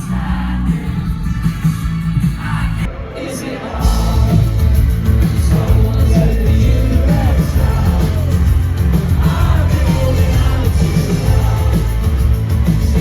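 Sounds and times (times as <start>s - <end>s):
sung lead vocal: 0.0s - 1.6s, 2.2s - 13.0s
live rock band playing: 0.8s - 2.8s, 3.8s - 13.0s.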